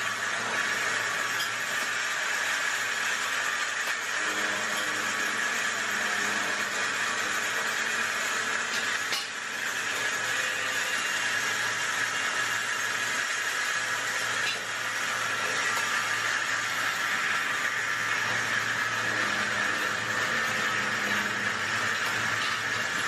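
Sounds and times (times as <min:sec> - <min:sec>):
lathe hissing and whirring: 0:00.0 - 0:23.0.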